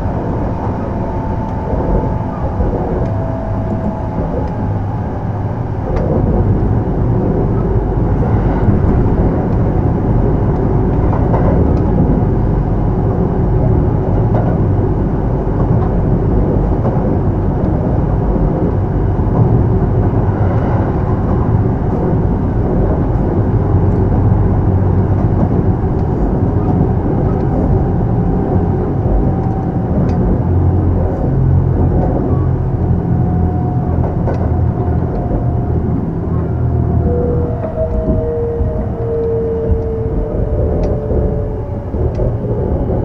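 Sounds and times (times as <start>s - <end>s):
faint whine: 0.0s - 43.0s
wheels rumbling on rail: 0.0s - 43.0s.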